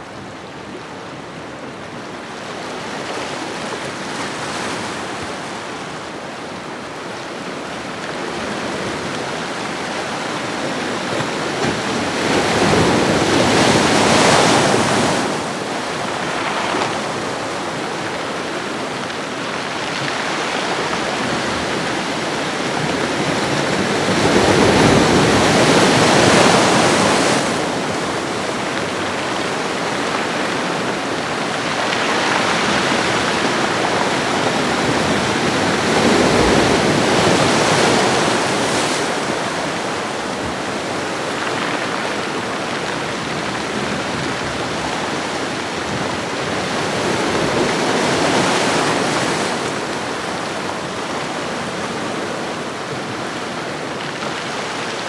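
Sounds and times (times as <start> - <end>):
ocean waves on shoreline: 2.9 - 55.0.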